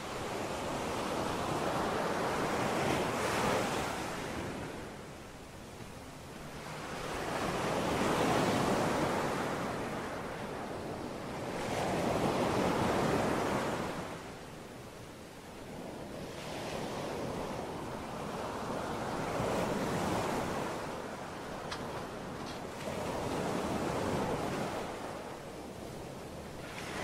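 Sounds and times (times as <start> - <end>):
small waves breaking on shore: 0.0 - 27.0.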